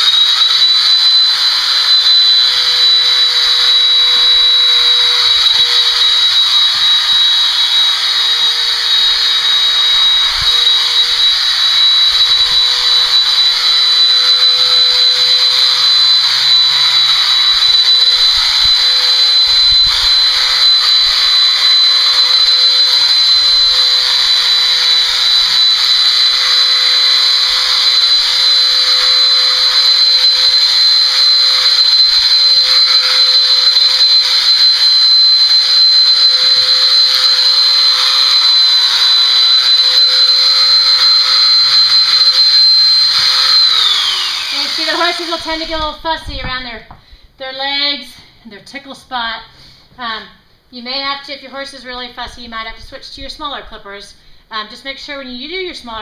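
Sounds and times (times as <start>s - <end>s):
electric clippers whining: 0.0s - 46.7s.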